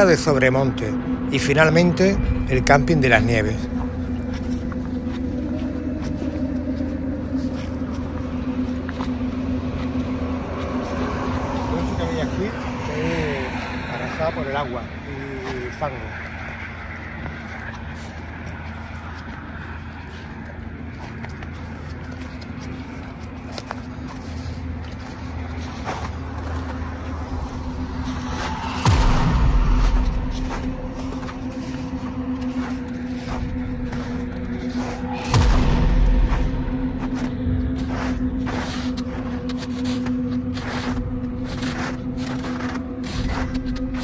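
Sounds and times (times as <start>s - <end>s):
deep rumble: 0.0s - 44.0s
footsteps on frosty ground: 0.0s - 44.0s
outdoor noise: 0.0s - 44.0s
steady low hum: 0.0s - 44.0s.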